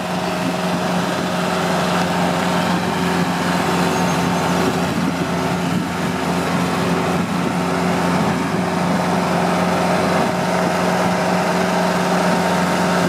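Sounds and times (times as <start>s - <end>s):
snow blower throwing snow: 0.0s - 13.0s
tractor diesel engine running: 0.0s - 13.0s.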